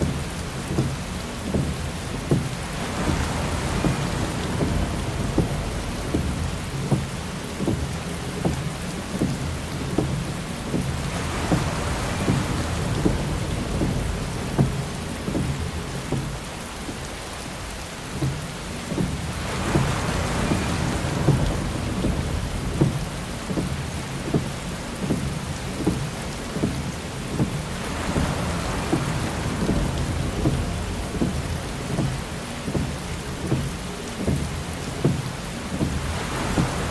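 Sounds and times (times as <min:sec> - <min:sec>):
heavy rain on car: 0:00.0 - 0:36.9
windshield wiper sweeping: 0:00.0 - 0:36.9.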